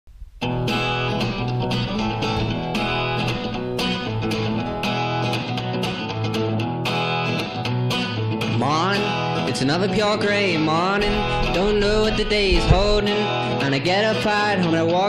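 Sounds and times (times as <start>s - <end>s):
strummed guitar music: 0.4s - 15.0s.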